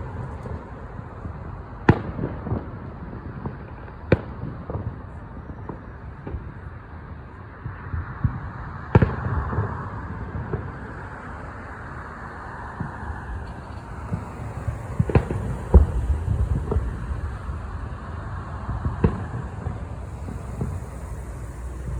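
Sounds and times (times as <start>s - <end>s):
fireworks bangs: 0.0s - 21.9s
small firework pops: 0.1s - 12.0s, 12.7s - 21.9s.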